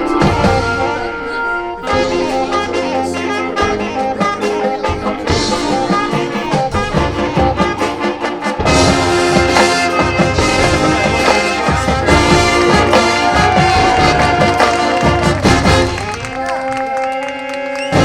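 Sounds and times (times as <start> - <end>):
drumline: 0.0 - 1.1, 1.8 - 18.0
marching band brass: 0.0 - 18.0.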